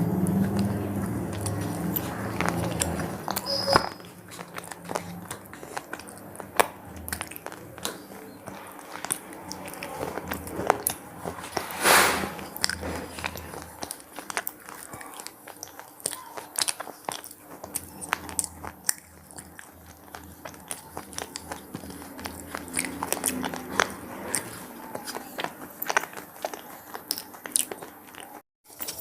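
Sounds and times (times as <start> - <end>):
crunchy snack biting and chewing: 0.0 - 29.0.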